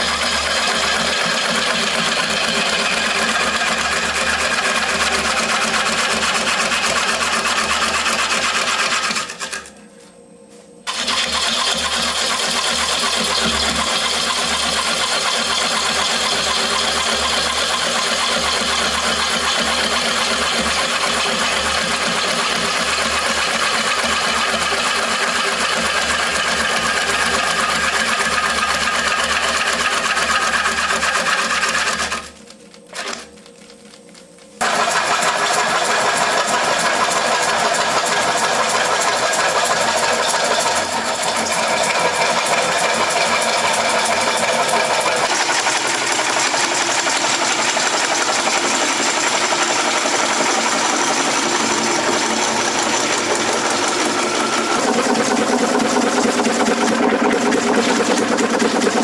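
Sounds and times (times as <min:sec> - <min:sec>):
lathe running: 0:00.0 - 0:09.8, 0:10.9 - 0:33.3, 0:34.6 - 0:59.0
tool cutting spinning wood: 0:00.0 - 0:09.8, 0:10.8 - 0:33.6, 0:34.5 - 0:59.0.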